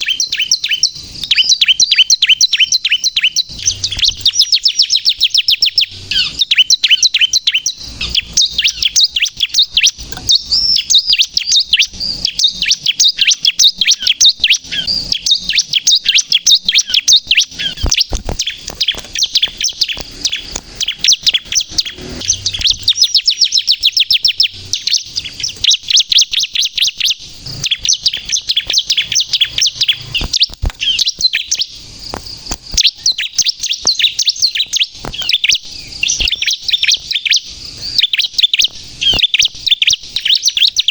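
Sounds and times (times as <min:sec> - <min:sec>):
bird singing fast trills: 0:00.0 - 0:40.9.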